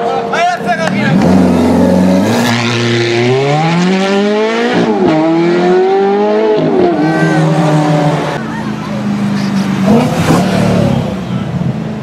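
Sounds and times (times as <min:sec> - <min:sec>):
car engine accelerating hard: 0:00.9 - 0:11.8.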